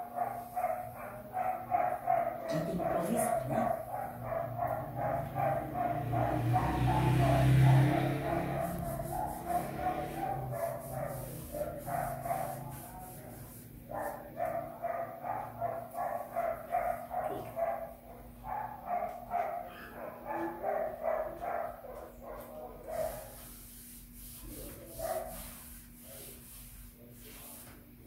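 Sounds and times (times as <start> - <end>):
dog barking: 0.0 - 12.9, 13.9 - 23.4, 24.9 - 25.5.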